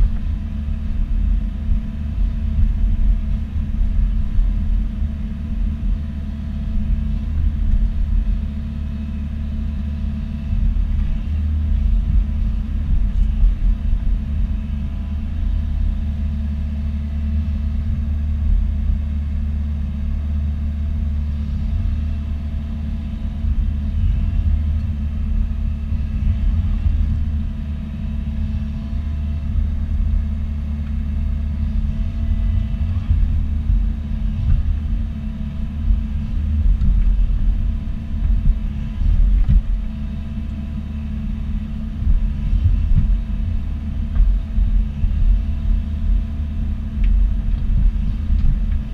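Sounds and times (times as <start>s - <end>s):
excavator diesel engine rumbling: 0.0s - 48.9s.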